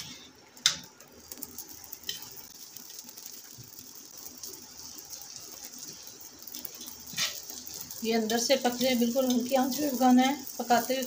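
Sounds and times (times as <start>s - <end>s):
flatbread sizzling in ghee: 0.0s - 11.0s.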